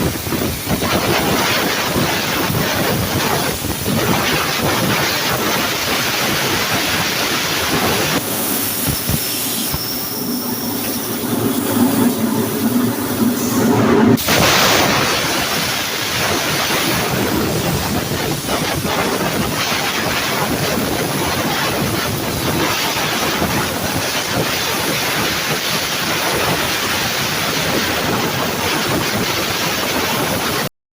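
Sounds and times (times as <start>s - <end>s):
plasma cutter torch hissing: 0.0s - 30.6s.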